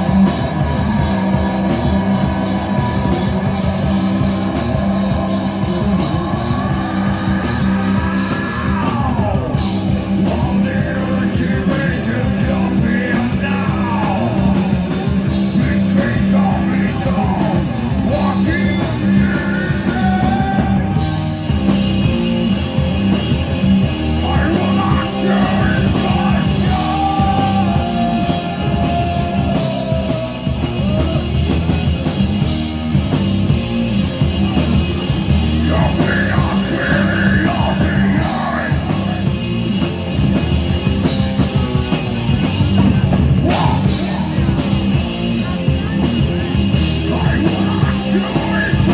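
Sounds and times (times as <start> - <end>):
person singing: 0.0 - 21.3, 24.1 - 31.8, 34.2 - 39.7, 42.6 - 48.9
electric guitar: 0.0 - 48.9
live rock band playing: 0.0 - 48.9.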